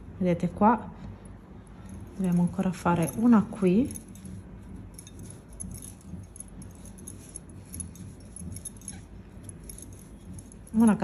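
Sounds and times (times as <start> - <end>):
crochet hook clinks and yarn rustles: 1.5 - 11.0.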